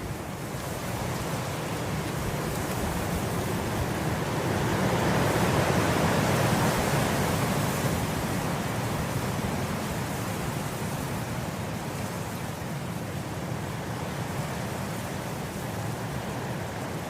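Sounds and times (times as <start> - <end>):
wind blowing through grass: 0.0 - 17.0.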